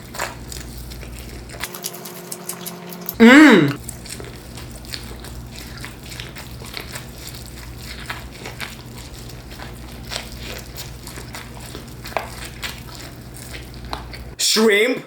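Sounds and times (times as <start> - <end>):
person chewing food: 0.0 - 14.4.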